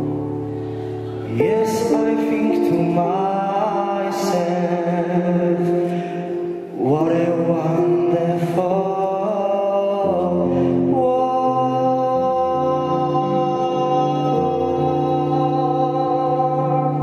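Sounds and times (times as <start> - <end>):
man singing into microphone: 0.0 - 17.0.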